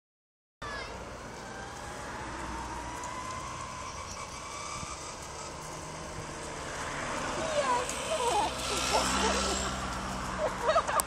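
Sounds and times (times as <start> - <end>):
moped engine whine: 0.6 - 11.0
road traffic noise: 0.6 - 11.0.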